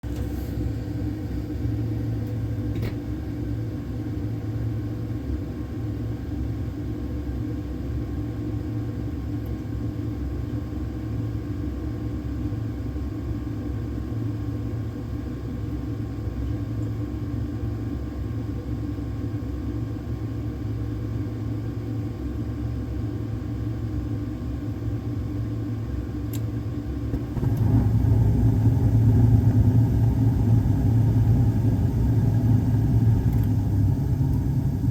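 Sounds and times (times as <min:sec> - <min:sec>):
hvac equipment humming: 0:00.0 - 0:34.9.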